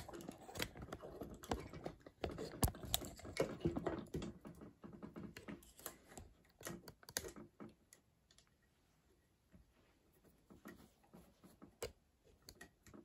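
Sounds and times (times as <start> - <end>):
small clicks and taps of handling parts: 0.0 - 8.8, 9.5 - 13.0.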